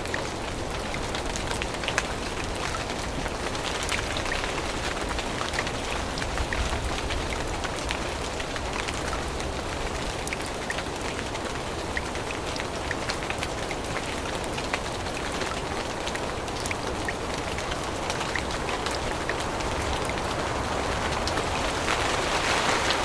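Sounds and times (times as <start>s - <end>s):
rain on foliage: 0.0s - 23.0s.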